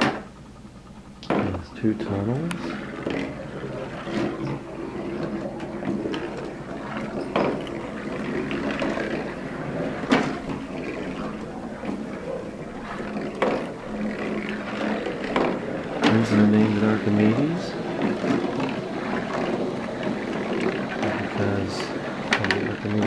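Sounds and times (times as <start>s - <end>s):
marbles rolling rumble: 1.3s - 23.0s.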